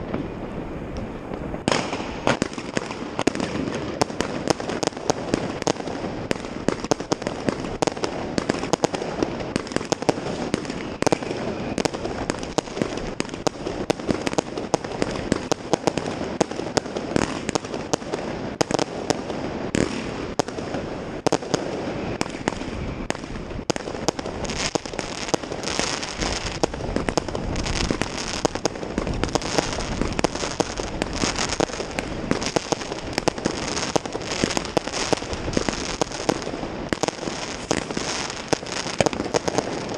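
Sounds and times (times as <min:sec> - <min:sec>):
firecrackers crackling: 0:00.0 - 0:39.9
fireworks bangs and pops: 0:00.0 - 0:39.9.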